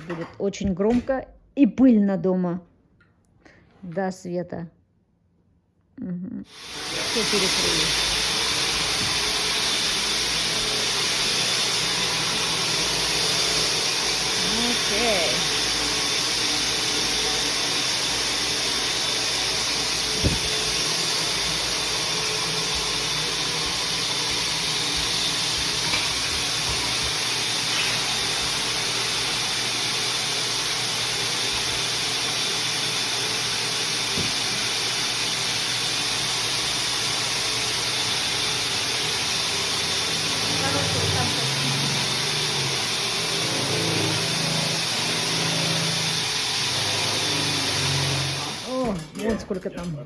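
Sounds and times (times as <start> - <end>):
duct cleaning vacuum rushing hiss: 6.5 - 49.4.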